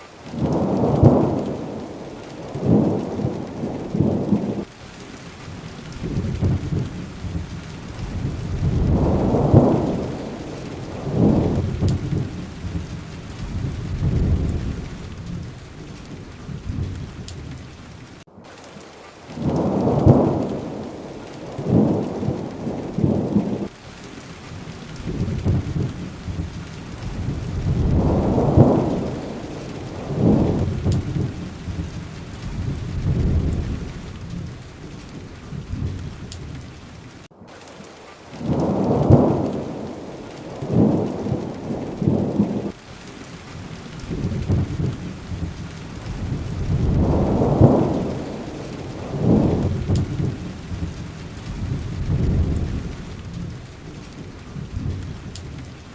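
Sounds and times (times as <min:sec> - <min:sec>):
steady rain: 0:00.0 - 0:55.9
rolling thunder: 0:00.3 - 0:04.7, 0:05.5 - 0:18.2, 0:19.3 - 0:23.8, 0:24.5 - 0:37.3, 0:38.4 - 0:42.8, 0:43.6 - 0:55.9.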